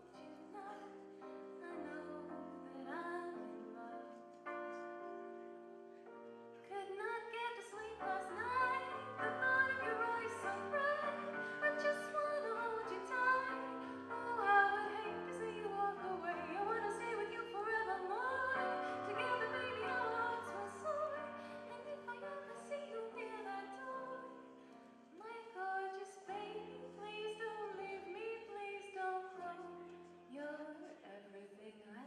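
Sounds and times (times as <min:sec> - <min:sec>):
woman singing lead: 0:00.0 - 0:04.4, 0:06.7 - 0:32.0
keyboard: 0:00.0 - 0:31.0.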